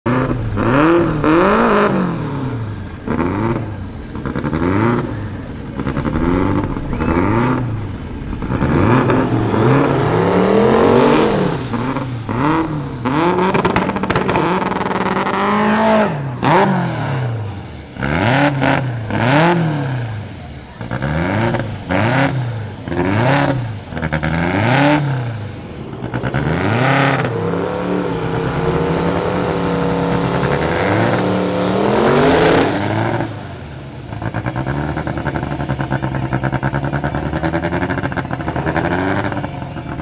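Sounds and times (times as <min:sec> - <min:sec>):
race car engines revving: 0:00.0 - 0:40.0
high whine: 0:00.1 - 0:34.8.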